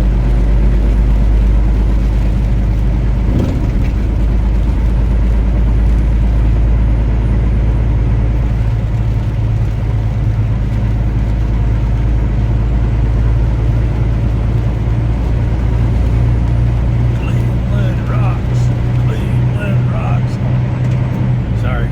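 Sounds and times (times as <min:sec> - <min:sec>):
road noise: 0:00.0 - 0:21.9
truck engine drone: 0:00.0 - 0:21.9.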